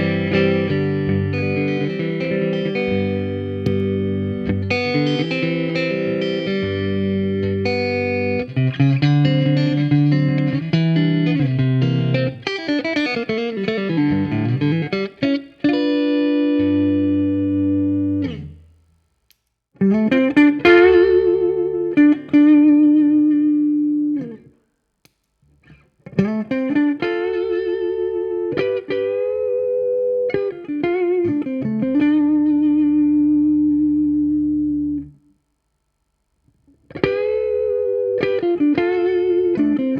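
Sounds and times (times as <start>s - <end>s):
electric guitar chords and notes: 0.0s - 18.7s, 19.8s - 24.6s, 25.5s - 35.2s, 36.7s - 39.9s.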